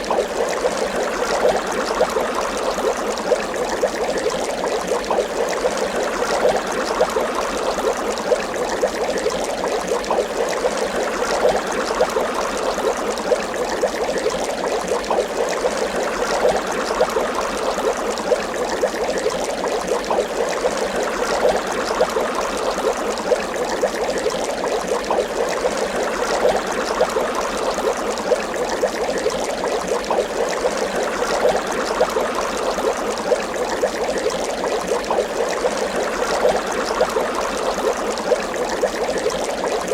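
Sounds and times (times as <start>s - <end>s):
water bubbling: 0.0s - 39.9s.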